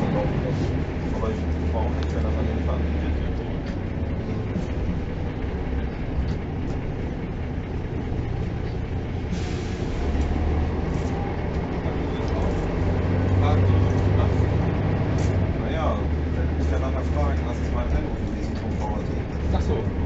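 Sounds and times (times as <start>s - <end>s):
bus engine droning: 0.0s - 20.0s
road rumble: 0.0s - 20.0s.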